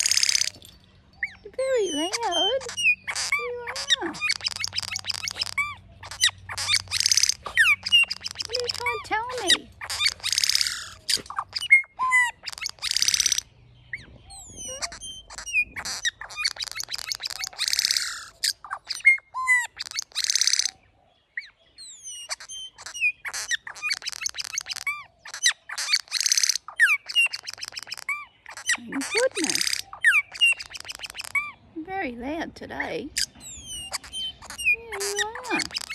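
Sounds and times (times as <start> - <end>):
bird squawking and whistling: 0.0 - 0.6, 1.2 - 20.8, 21.4 - 31.6, 33.1 - 35.9.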